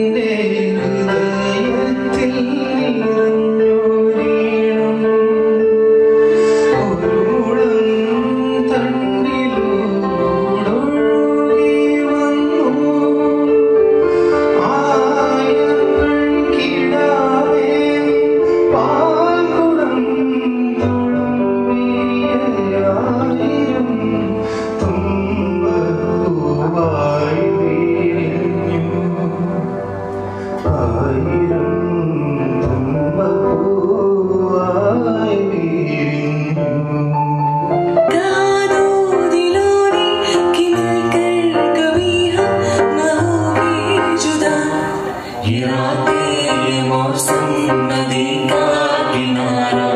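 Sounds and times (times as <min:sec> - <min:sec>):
acoustic instrumental accompaniment: 0:00.0 - 0:49.9
person singing: 0:00.0 - 0:49.9.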